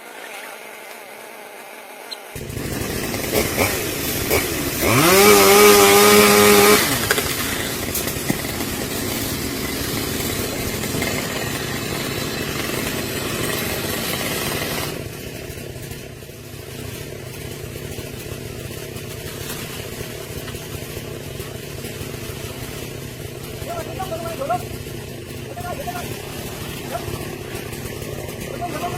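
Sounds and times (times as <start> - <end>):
chainsaw engine revving: 0.0 - 28.9.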